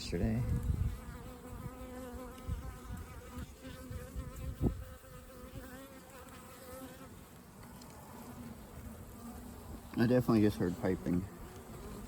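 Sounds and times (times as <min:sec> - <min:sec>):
honey bees buzzing: 0:00.1 - 0:12.0.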